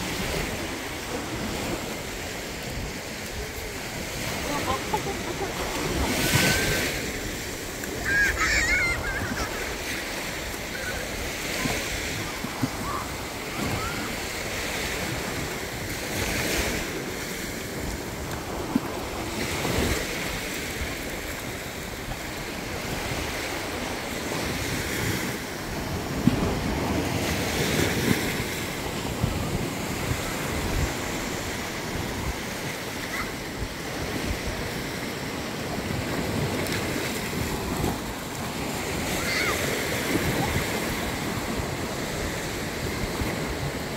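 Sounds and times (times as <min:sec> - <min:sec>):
surf washing up a beach: 0:00.0 - 0:43.9
wind on microphone: 0:00.0 - 0:43.9.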